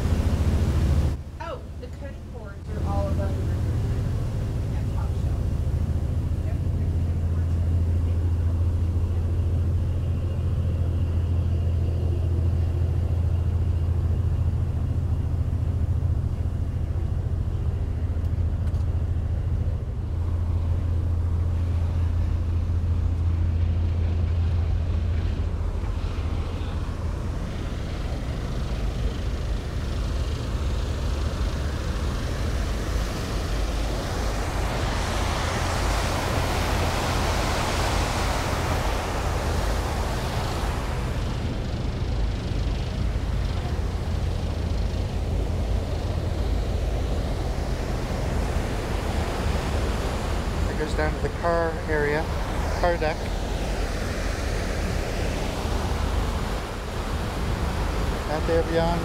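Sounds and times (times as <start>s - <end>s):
rush of churning water: 0.0s - 9.7s, 19.1s - 59.0s
ferry machinery drone: 0.0s - 59.0s.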